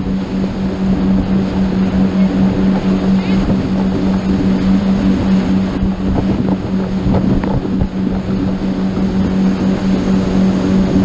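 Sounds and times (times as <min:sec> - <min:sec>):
motorboat engine running: 0:00.0 - 0:11.0
water rushing past hull: 0:00.0 - 0:11.0
wind buffeting microphone: 0:00.0 - 0:11.0.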